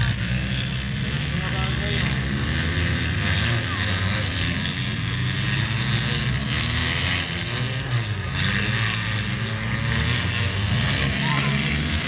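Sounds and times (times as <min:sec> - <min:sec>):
car engines droning: 0:00.0 - 0:12.0.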